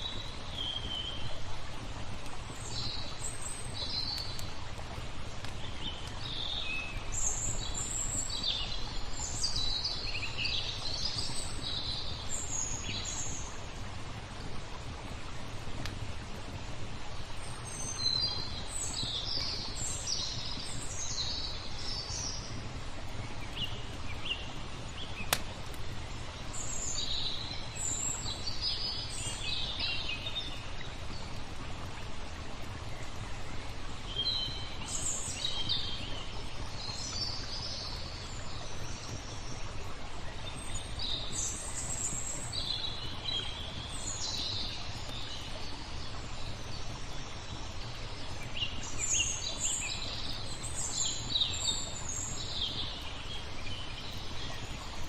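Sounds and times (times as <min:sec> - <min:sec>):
flowing water: 0:00.0 - 0:55.0
small birds chirping: 0:02.3 - 0:13.6, 0:15.8 - 0:55.0.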